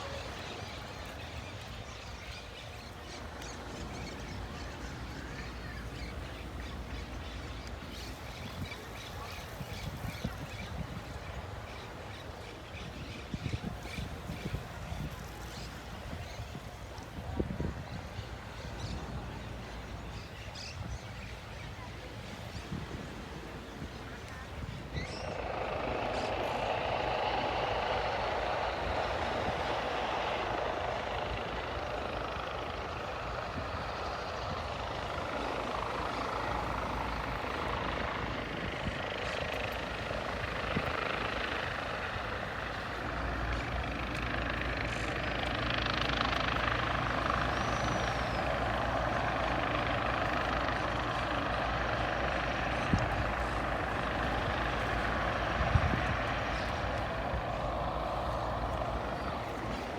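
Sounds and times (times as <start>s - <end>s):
aircraft engine noise: 0.0s - 59.9s.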